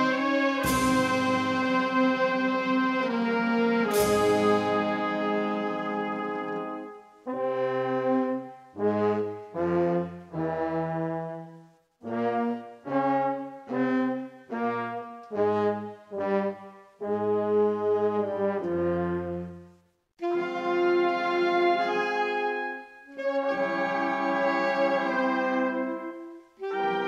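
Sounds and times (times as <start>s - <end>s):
brass band playing slow march: 0.0s - 27.0s.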